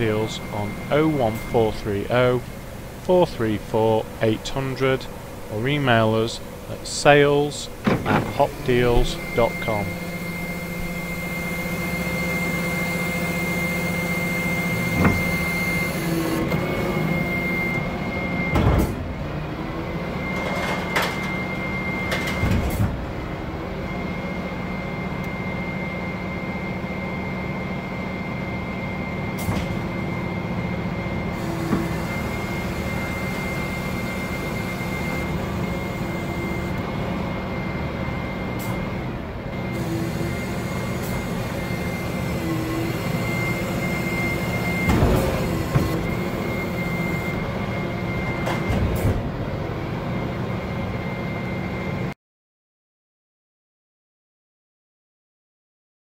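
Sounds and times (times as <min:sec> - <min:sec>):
truck engine and hydraulic hum: 0:00.0 - 0:52.2.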